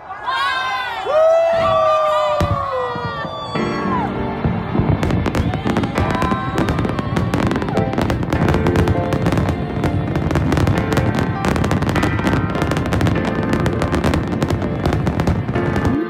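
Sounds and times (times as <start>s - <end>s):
fireworks bangs and crackles: 1.4s - 16.0s
music playing: 3.0s - 16.0s.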